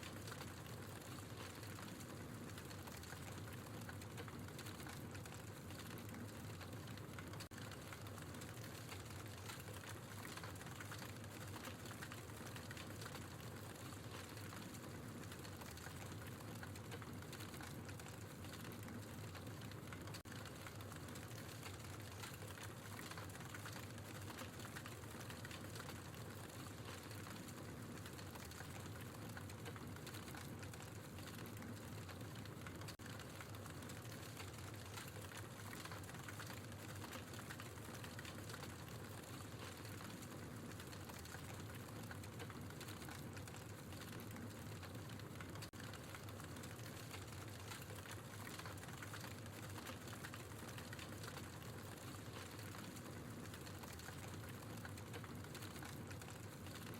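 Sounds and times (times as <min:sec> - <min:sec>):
logs crackling in fireplace: 0:00.0 - 0:56.9.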